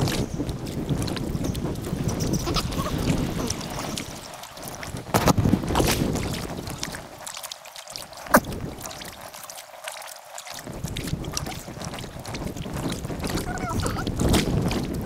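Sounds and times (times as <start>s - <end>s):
wind noise on microphone: 0.0s - 7.3s, 8.0s - 9.4s, 10.6s - 15.0s
paddle strokes splashing: 0.0s - 15.0s.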